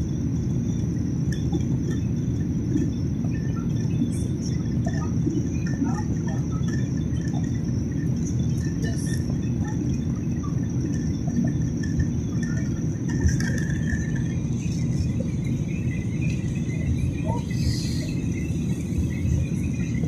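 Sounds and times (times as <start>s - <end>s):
high engine whine: 0.0s - 20.0s
jet engine rumble in cabin: 0.0s - 20.0s.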